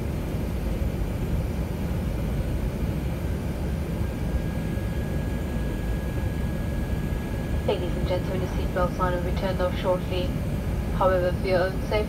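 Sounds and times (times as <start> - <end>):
airplane cabin engine rush: 0.0 - 12.0.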